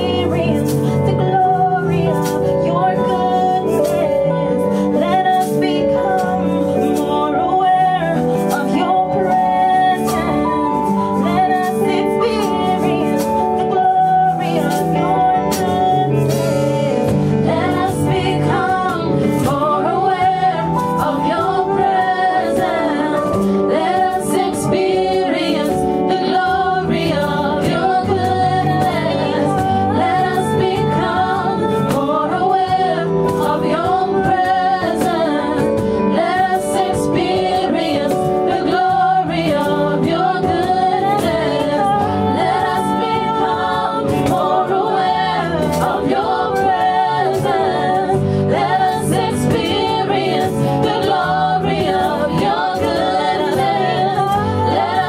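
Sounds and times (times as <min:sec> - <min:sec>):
acoustic guitar: 0:00.0 - 0:55.0
cajon with cymbal: 0:00.0 - 0:55.0
electric guitar: 0:00.0 - 0:55.0
hand-drum strokes: 0:00.0 - 0:55.0
keyboard: 0:00.0 - 0:55.0
woman singing lead: 0:00.0 - 0:55.0.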